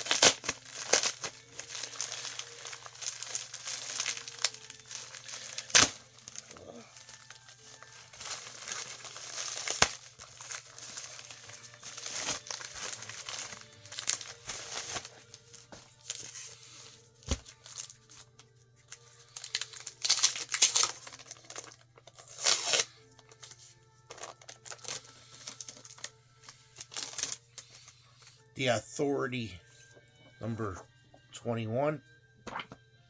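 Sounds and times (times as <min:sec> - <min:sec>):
plastic bags crinkling: 0:00.0 - 0:16.5, 0:17.2 - 0:23.5, 0:24.1 - 0:27.8.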